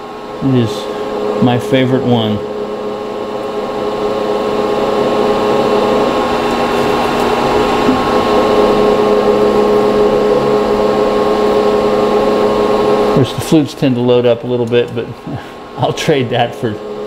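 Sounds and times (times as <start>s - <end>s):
milling machine cutting metal: 0.1s - 13.8s.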